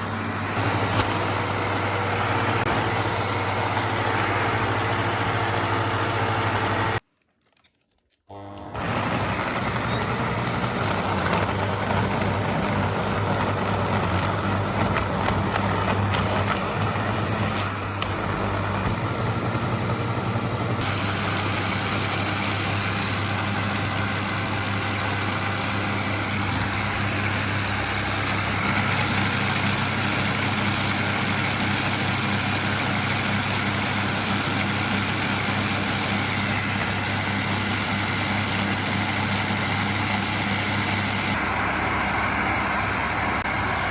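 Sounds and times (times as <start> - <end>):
vacuum cleaner running: 0.0 - 7.0, 8.3 - 43.9.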